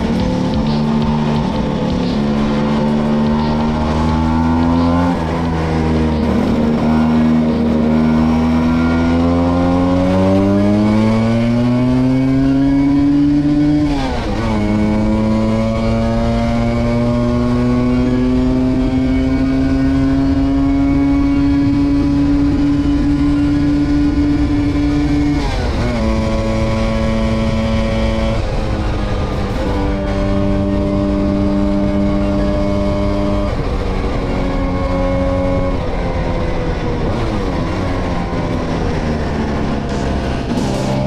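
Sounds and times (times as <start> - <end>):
scooter engine revving: 0.0 - 41.0.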